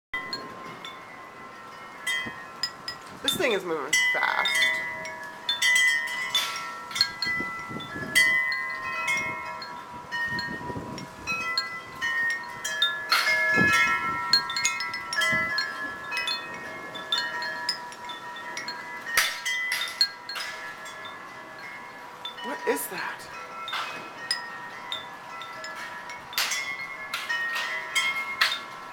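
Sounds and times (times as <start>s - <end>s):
wind chimes ringing: 0.1s - 28.9s
gusty storm wind: 0.2s - 28.9s.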